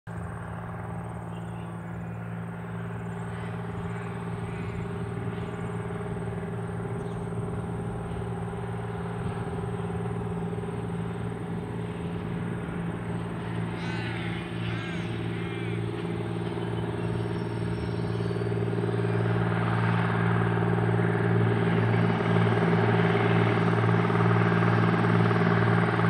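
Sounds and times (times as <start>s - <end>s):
diesel engines humming: 0.1s - 26.0s.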